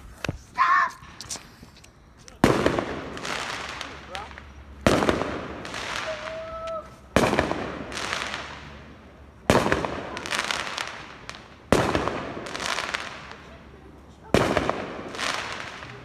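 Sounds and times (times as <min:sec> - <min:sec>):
fireworks crackling: 0:00.0 - 0:16.0
fireworks bangs: 0:02.4 - 0:16.0.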